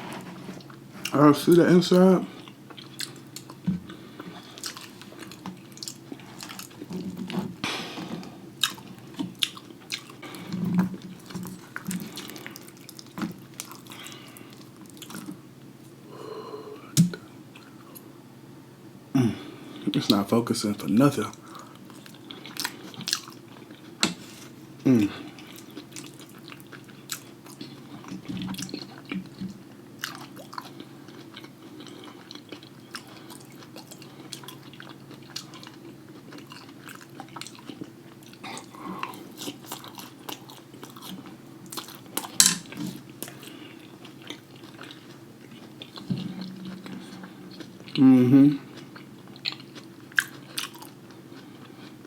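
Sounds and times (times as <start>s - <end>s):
person chewing wetly: 2.3s - 7.5s, 8.6s - 15.4s, 21.3s - 24.0s, 24.9s - 52.0s.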